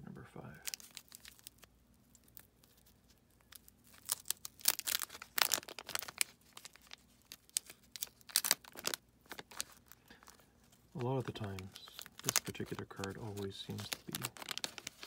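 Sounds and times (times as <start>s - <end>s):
wax paper wrapper tearing and crinkling: 0.6s - 15.0s.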